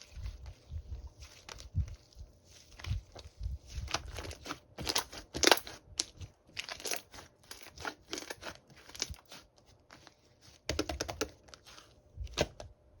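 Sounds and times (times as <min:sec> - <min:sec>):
crunching and rustling: 0:00.0 - 0:10.7.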